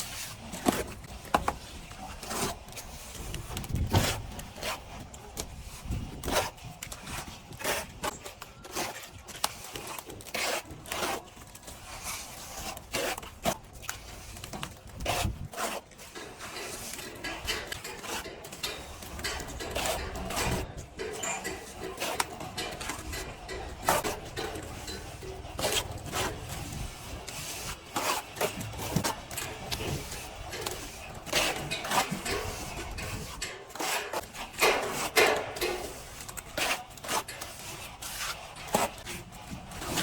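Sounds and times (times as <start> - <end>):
plastering tools scraping plaster: 0.0 - 40.0.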